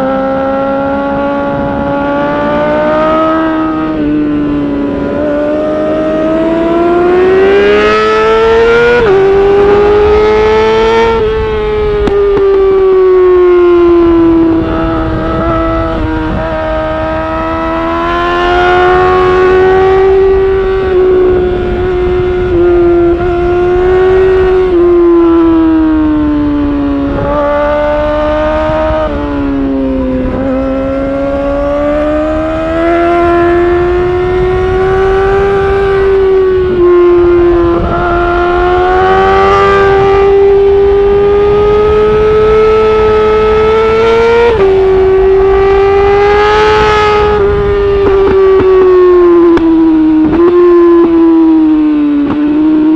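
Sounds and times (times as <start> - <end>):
motorcycle engine revving high: 0.0 - 52.9
wind rush: 0.0 - 52.9.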